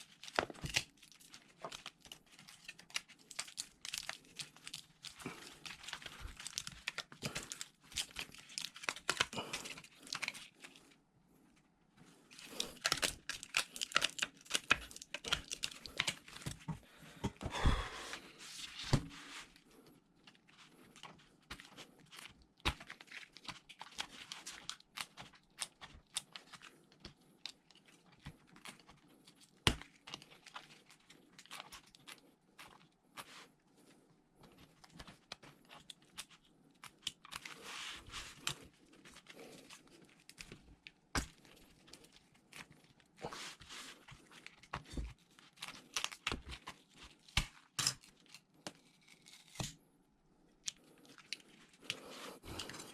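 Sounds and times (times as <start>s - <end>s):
crinkling and tearing: 0.0s - 17.4s, 18.1s - 49.8s, 50.5s - 52.9s.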